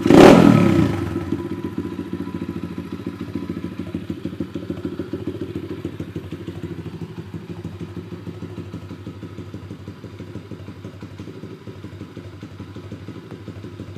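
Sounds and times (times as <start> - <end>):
motorbike engine idling: 0.0 - 13.9.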